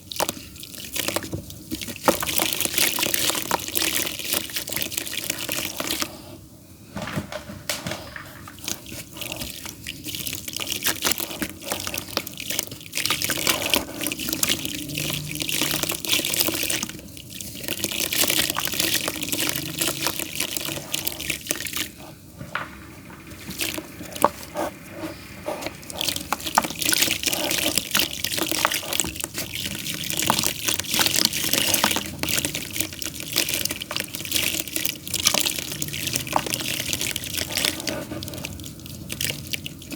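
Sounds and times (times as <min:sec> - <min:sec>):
wet clay mud crumbling: 0:07.0 - 0:39.9.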